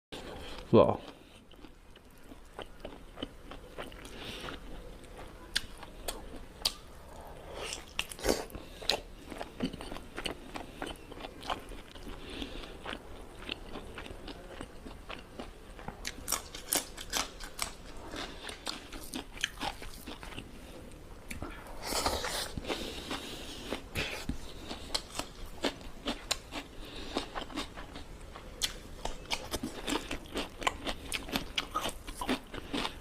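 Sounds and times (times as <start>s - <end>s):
person chewing food: 0.2s - 33.0s.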